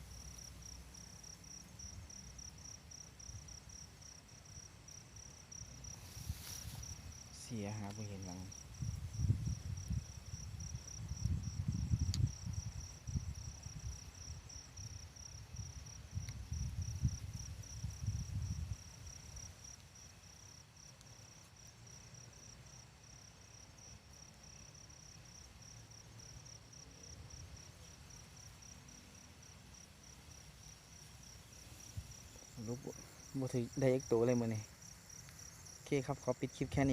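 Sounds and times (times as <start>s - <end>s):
crickets chirping: 0.0s - 36.9s.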